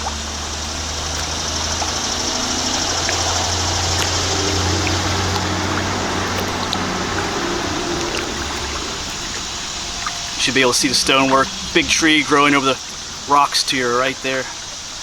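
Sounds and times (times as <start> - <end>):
steady high hiss: 0.0 - 15.0
water splashing and trickling: 0.0 - 15.0.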